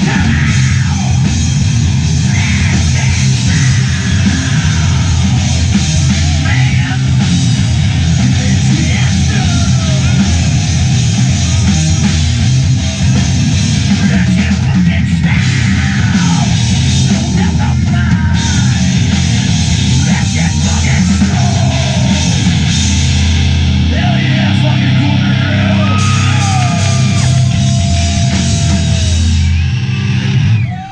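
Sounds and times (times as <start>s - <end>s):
live rock band playing: 0.0s - 30.9s.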